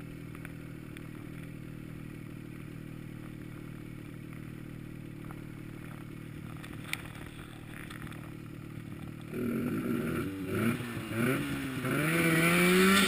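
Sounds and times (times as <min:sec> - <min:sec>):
snowmobile engine idling: 0:00.0 - 0:13.0.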